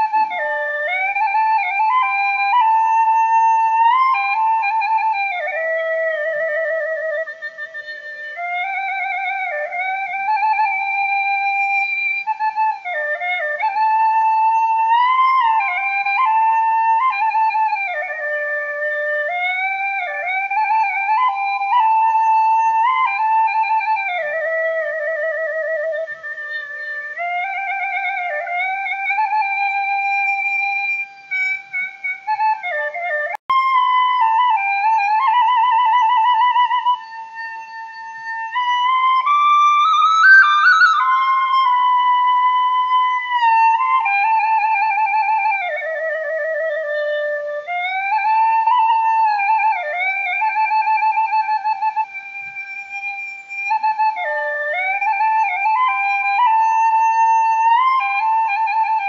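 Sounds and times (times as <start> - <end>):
solo flute melody: 0.0 - 59.0.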